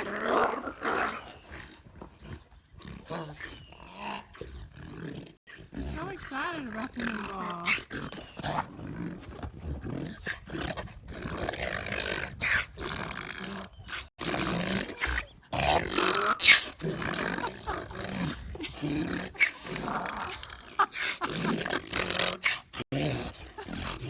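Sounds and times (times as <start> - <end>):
dog growling and grumbling: 2.3 - 24.0.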